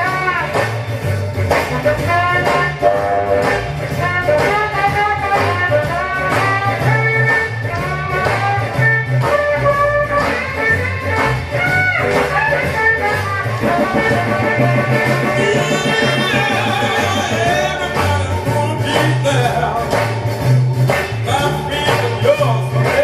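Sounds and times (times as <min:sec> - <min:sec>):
rhythm and blues instrumental: 0:00.0 - 0:23.0.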